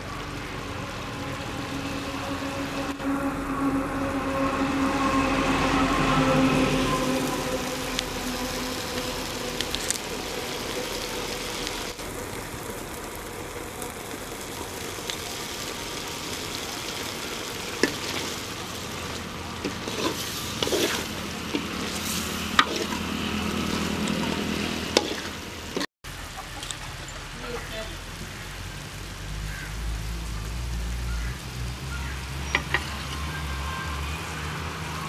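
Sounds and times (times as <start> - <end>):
curry sizzling and bubbling in pan: 0.0 - 35.0.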